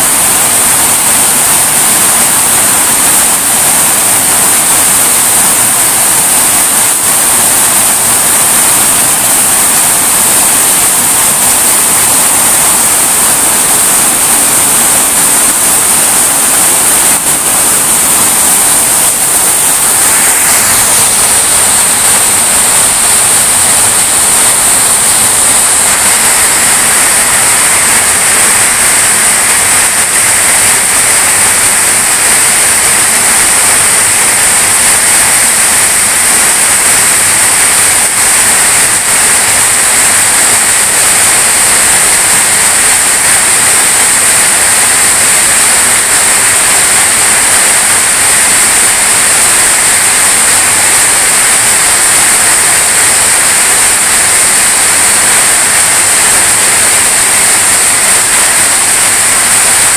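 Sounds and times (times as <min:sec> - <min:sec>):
heavy rain on leaves and roofs: 0:00.0 - 0:59.9.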